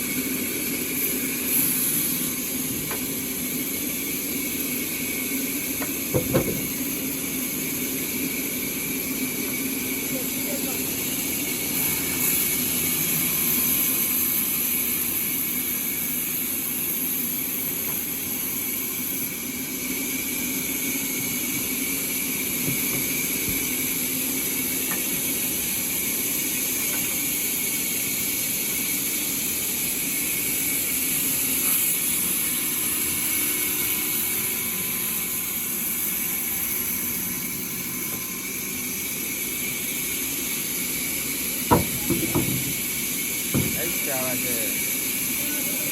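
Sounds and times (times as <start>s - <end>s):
sawmill saw running: 0.0s - 45.9s.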